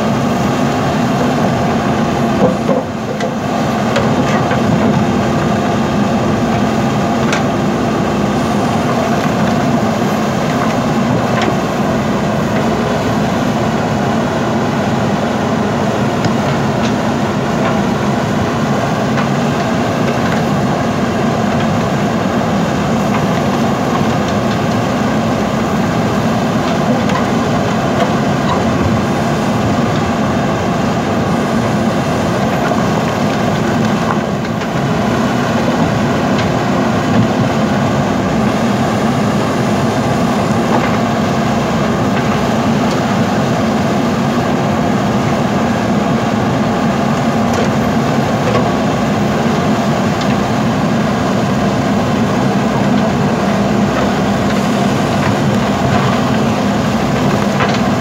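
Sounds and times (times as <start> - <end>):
backhoe digging soil and rock: 0.0 - 58.0
diesel engines running: 0.0 - 58.0.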